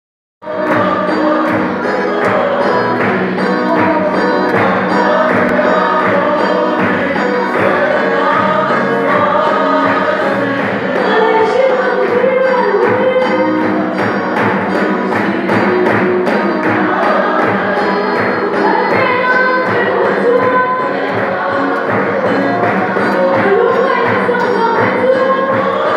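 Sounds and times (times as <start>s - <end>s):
congregation singing a hymn: 0.4s - 25.9s
steady drum beat: 0.5s - 25.9s.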